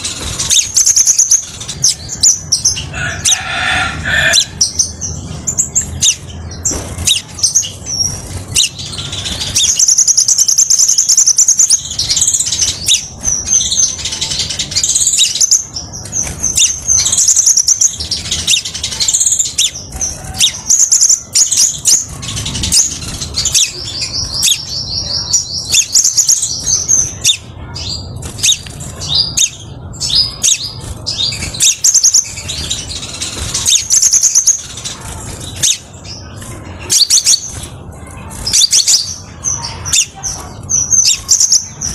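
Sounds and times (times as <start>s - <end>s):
bird twittering and trilling: 0.0s - 41.9s.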